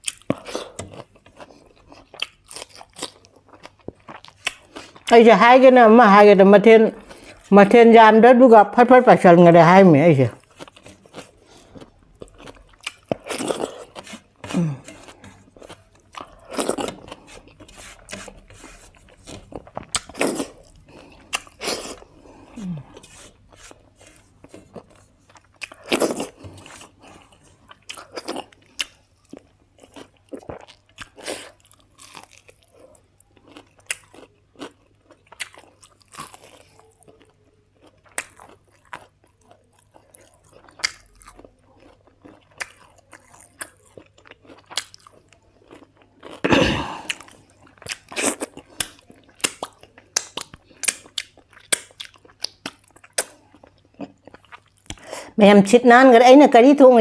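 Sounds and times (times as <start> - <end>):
person chewing and crunching: 0.0 - 5.2, 10.3 - 55.2.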